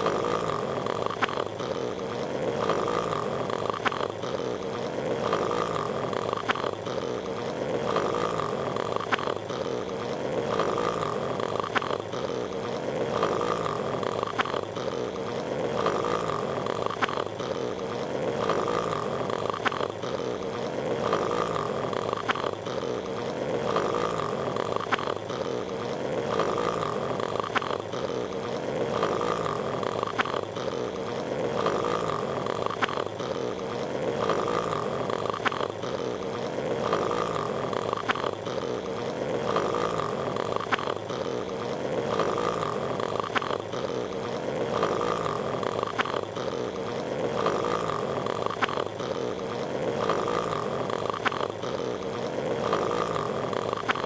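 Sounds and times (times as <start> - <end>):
cartoon snoring: 0.0 - 54.0.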